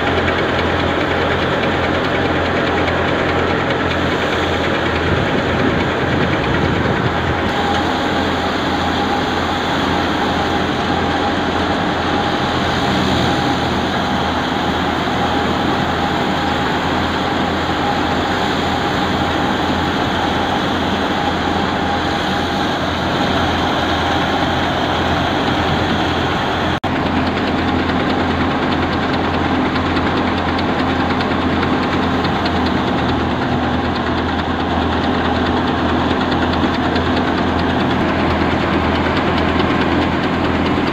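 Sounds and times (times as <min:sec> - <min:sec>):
engine drone: 0:00.0 - 0:40.9
threshing machine running: 0:00.0 - 0:40.9.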